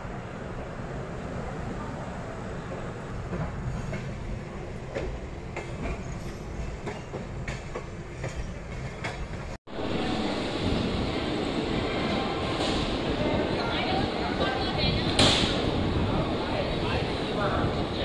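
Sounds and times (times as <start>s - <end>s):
train rumble inside coach: 0.0s - 18.0s.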